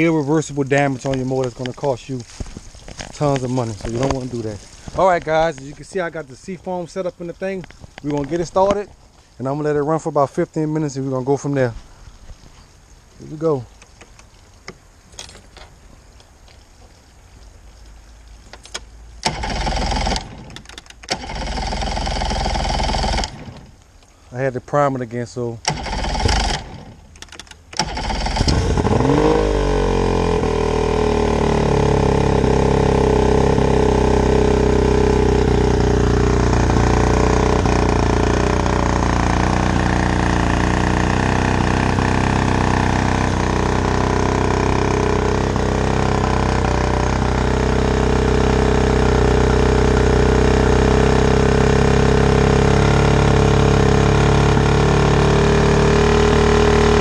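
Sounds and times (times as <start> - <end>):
two-stroke outboard motor starting: 0.0 - 9.8, 18.6 - 23.8, 25.5 - 57.0.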